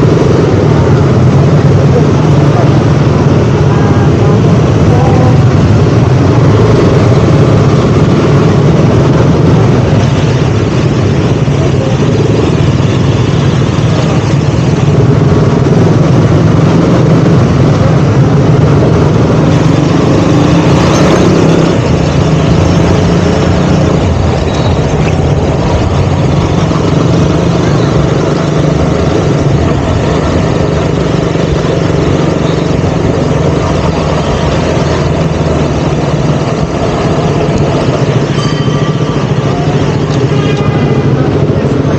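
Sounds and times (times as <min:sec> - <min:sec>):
constant rush of noise: 0:00.0 - 0:41.9
motorcycle engine running: 0:00.0 - 0:41.9.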